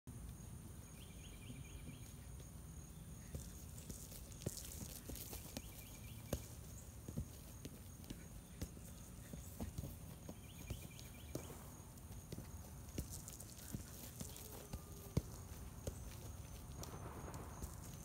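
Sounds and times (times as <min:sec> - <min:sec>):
steady outdoor hiss: 0:00.1 - 0:18.0
rapid bird chirps: 0:00.9 - 0:18.0
foot kicking ball on grass: 0:01.7 - 0:18.0
footsteps on grass: 0:03.2 - 0:18.0.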